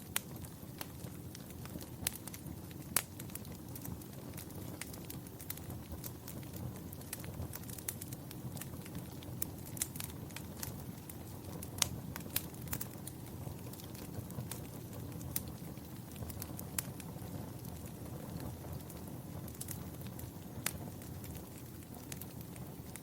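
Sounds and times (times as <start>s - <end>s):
fire crackling and popping: 0.0s - 23.0s
low steady burning sound: 0.0s - 23.0s.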